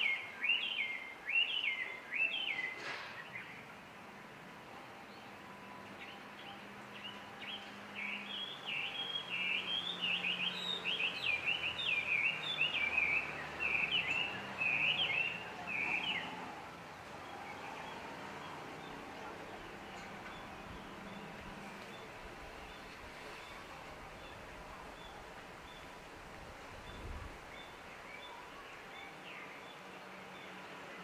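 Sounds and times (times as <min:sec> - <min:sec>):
faint outdoor background noise: 0:00.0 - 0:31.0.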